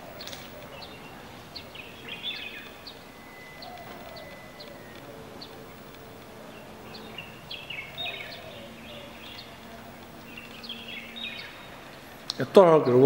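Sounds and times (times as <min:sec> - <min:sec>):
faint steady hum: 0:00.0 - 0:13.0
small birds chirping: 0:00.0 - 0:13.0.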